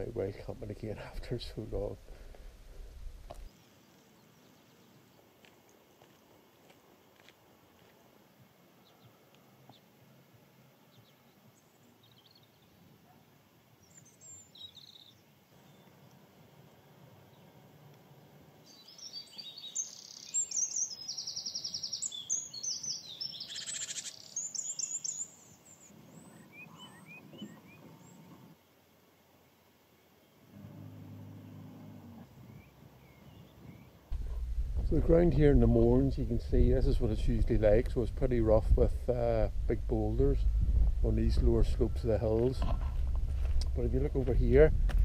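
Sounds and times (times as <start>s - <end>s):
songbirds chirping and trilling: 0.0s - 6.5s, 8.1s - 28.8s, 29.4s - 44.7s.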